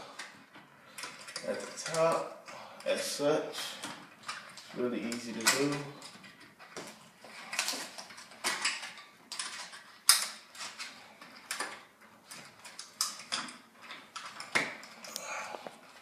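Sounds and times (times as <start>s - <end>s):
window blind clicking and rattling: 0.0s - 16.0s.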